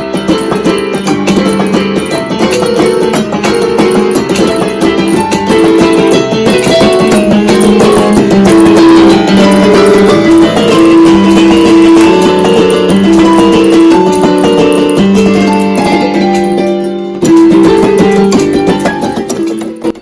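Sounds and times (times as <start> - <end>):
electronic keyboard playing: 0.0 - 20.0.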